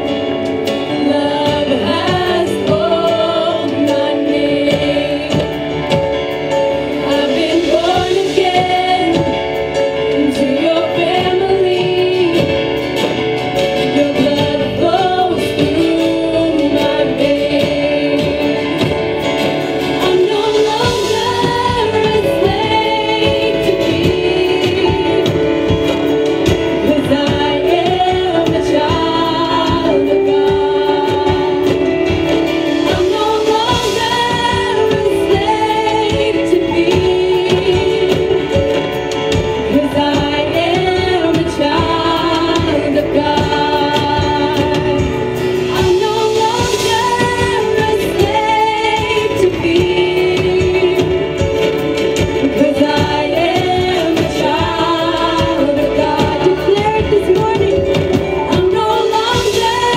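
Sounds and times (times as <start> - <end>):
women singing worship song: 0.0 - 59.9.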